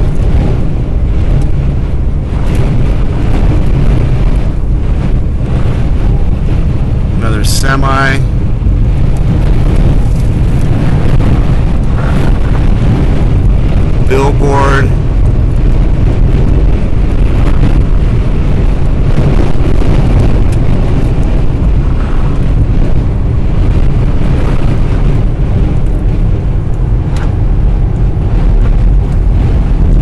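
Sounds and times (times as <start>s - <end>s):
car road noise: 0.0s - 30.0s
wind buffeting microphone: 0.0s - 30.0s.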